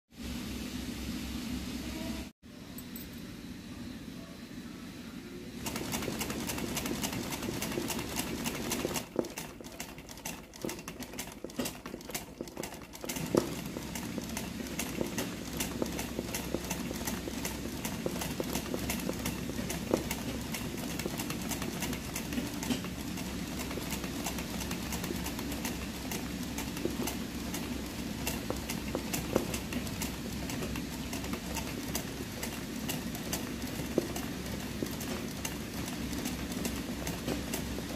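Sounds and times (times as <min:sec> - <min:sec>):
sewing machine stitching: 0:05.6 - 0:37.9.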